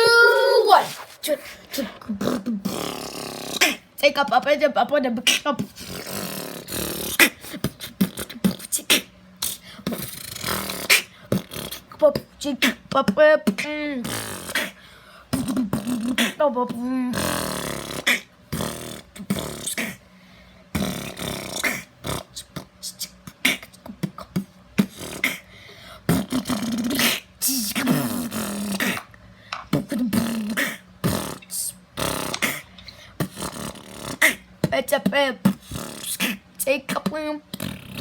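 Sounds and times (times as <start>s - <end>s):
person beatboxing: 1.2s - 20.0s, 20.7s - 25.5s, 26.1s - 29.1s, 29.7s - 38.0s.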